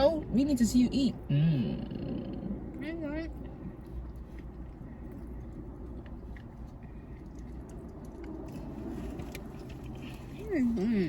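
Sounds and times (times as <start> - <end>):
steady low hum: 0.0 - 11.0
person chewing and eating: 1.9 - 11.0.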